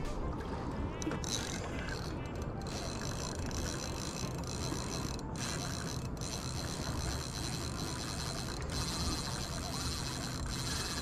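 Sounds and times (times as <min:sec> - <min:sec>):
fishing reel ticking: 0:01.0 - 0:11.0.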